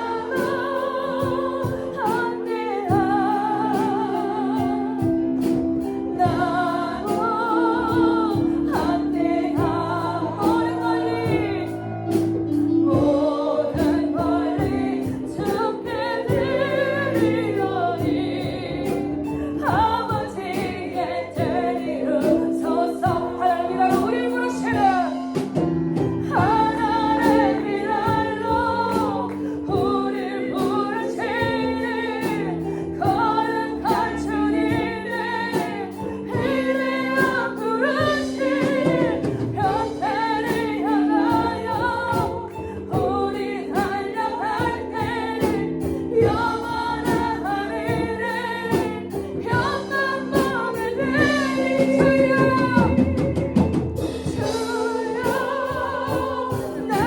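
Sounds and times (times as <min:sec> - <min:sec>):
worship song with voices singing: 0:00.0 - 0:57.0
percussive beat: 0:04.6 - 0:57.0.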